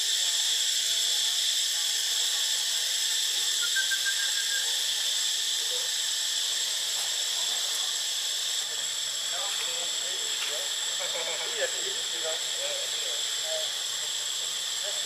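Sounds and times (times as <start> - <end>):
insects droning in trees: 0.0 - 15.0.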